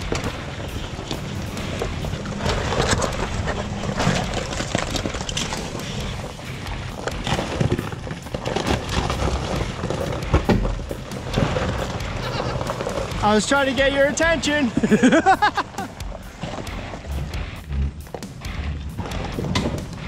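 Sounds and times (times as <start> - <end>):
tyres crunching on rock: 0.0 - 17.4
vehicle engines running low: 0.0 - 20.0.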